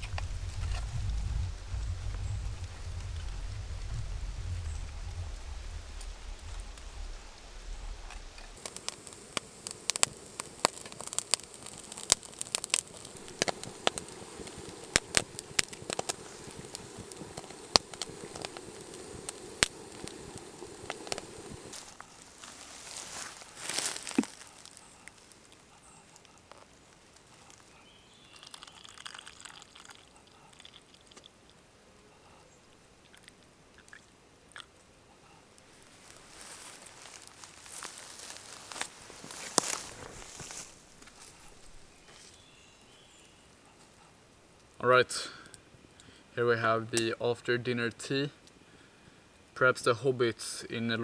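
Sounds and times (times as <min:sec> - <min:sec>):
campfire crackling and popping: 0:00.0 - 0:31.3, 0:35.6 - 0:42.6, 0:44.5 - 0:48.6.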